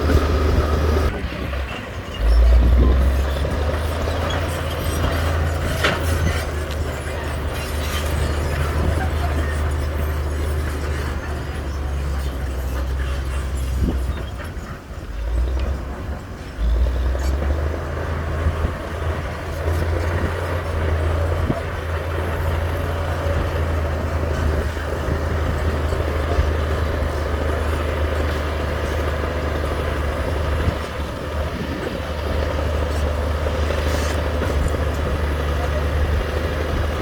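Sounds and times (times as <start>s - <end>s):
heavy diesel engine droning: 0.0s - 37.0s.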